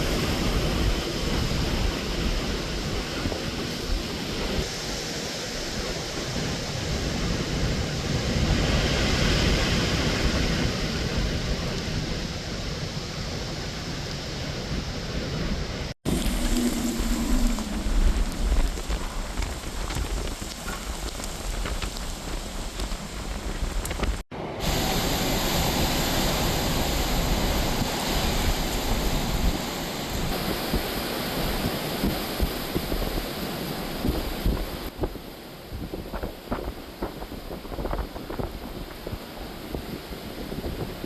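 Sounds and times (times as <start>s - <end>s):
gusting wind: 0.0s - 41.0s
heavy rain: 0.0s - 41.0s.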